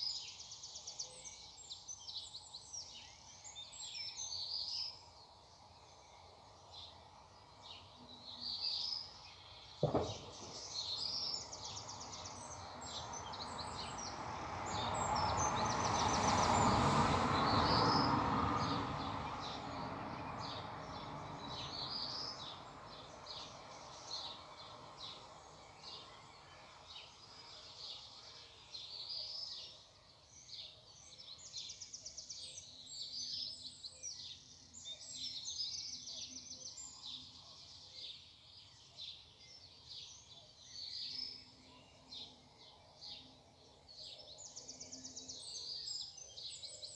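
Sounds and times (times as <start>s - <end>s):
small birds chirping and trilling: 0.0s - 46.9s.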